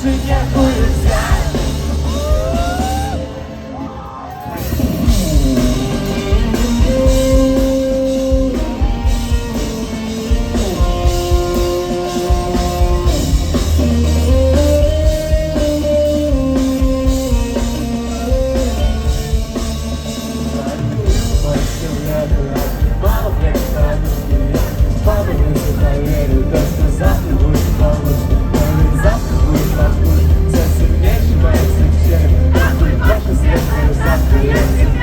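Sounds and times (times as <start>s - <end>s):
live rock band playing: 0.0s - 35.0s
guitar melody with long notes: 4.6s - 35.0s.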